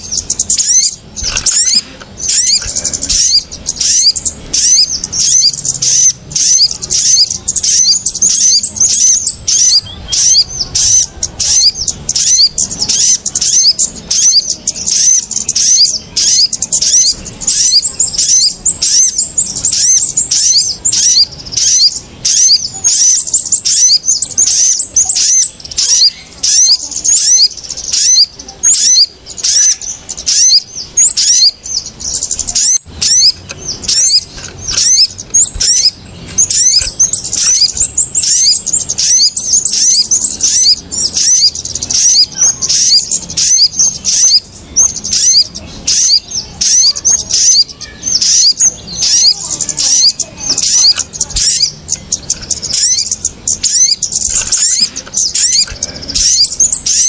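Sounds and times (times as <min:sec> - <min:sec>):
rapid high-pitched bird twittering: 0:00.0 - 0:57.0.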